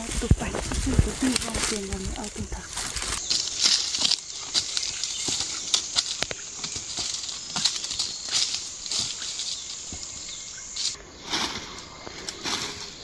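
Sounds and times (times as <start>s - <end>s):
footsteps crunching on dry leaves: 0.0s - 13.0s.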